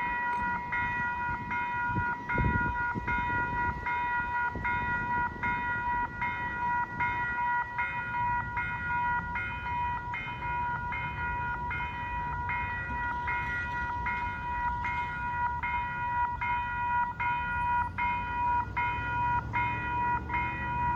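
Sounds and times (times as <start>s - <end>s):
crossing warning bell ringing: 0.0s - 20.9s.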